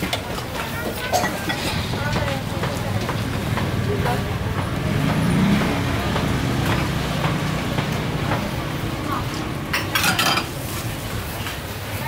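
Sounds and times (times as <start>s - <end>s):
people talking: 0.0s - 12.0s
road traffic rumble: 0.0s - 12.0s.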